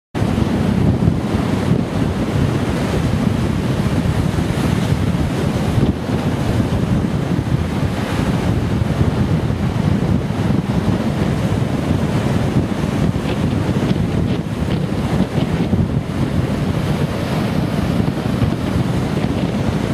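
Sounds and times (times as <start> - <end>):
sea surf breaking on beach: 0.2 - 19.9
wind buffeting microphone: 0.2 - 19.9.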